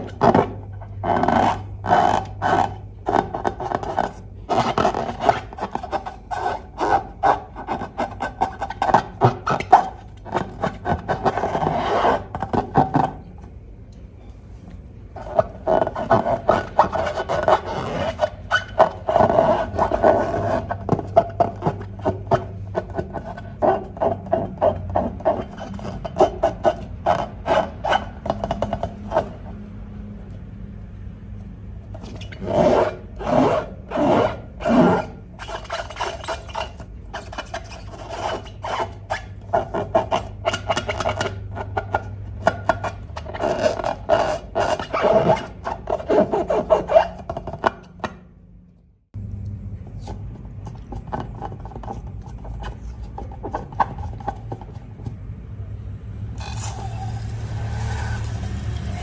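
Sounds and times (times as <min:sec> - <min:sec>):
rubbing and scraping strokes: 0:00.0 - 0:13.1, 0:15.2 - 0:29.5, 0:31.9 - 0:48.1, 0:50.0 - 0:55.2, 0:56.4 - 0:59.0
steady low hum: 0:00.0 - 0:59.0.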